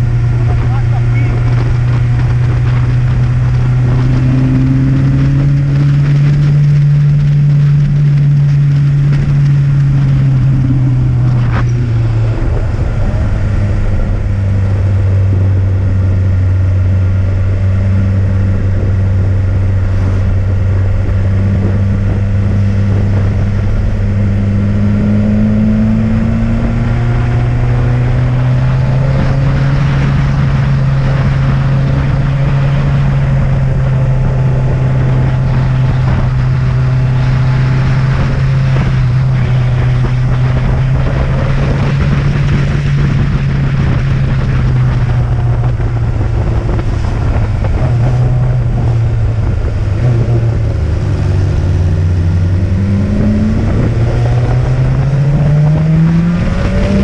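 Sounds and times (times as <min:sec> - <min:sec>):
vehicle engine droning under load: 0:00.0 - 0:57.0.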